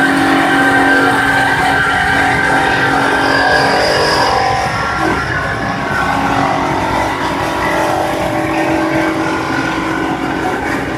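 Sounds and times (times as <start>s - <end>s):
band saw cutting steel: 0.0s - 10.9s.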